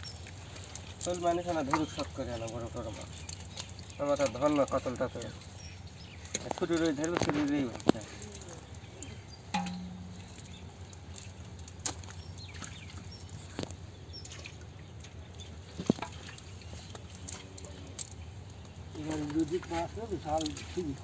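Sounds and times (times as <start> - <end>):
small wet splashes: 0.0 - 21.0.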